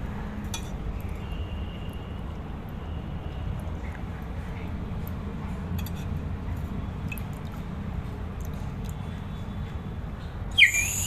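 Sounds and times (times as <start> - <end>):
water dripping and trickling: 0.5 - 10.9.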